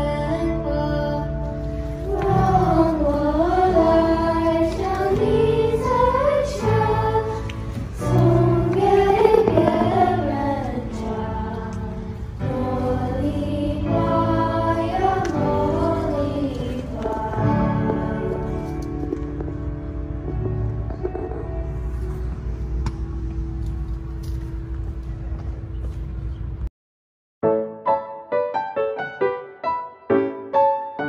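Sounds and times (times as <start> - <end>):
low backing chords: 0.0 - 26.6.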